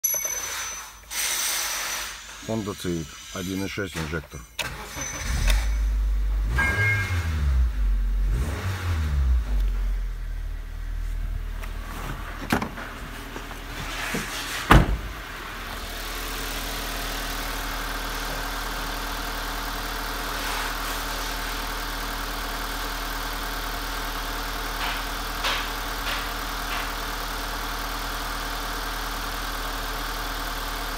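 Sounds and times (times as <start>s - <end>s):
car engine idling: 3.7s - 30.9s.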